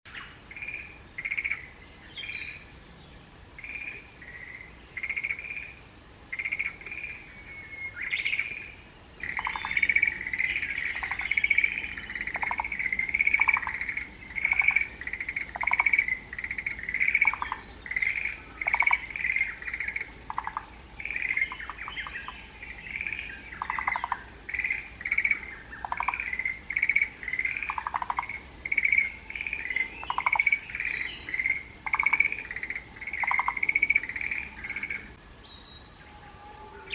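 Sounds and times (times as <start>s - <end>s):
tree frogs calling: 0.1s - 2.8s, 3.5s - 36.9s.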